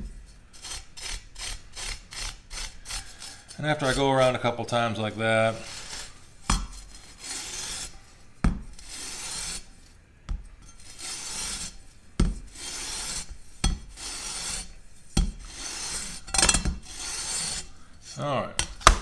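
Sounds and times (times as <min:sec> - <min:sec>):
scouring pad scrubbing saw blade: 0:00.6 - 0:09.7, 0:10.8 - 0:11.8, 0:12.4 - 0:18.3.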